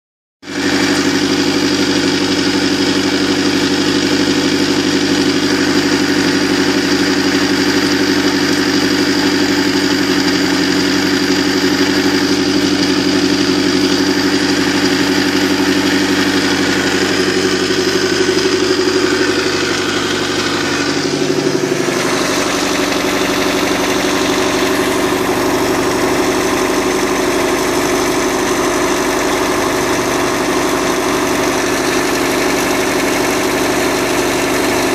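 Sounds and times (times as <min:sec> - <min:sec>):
boat engine idling: 0:00.5 - 0:34.9.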